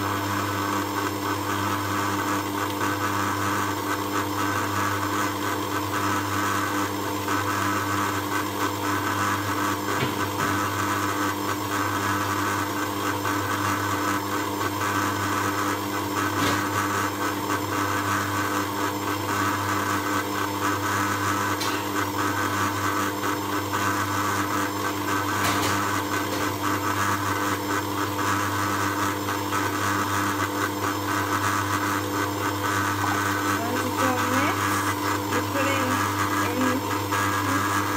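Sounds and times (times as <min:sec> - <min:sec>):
stand mixer running: 0:00.0 - 0:37.9.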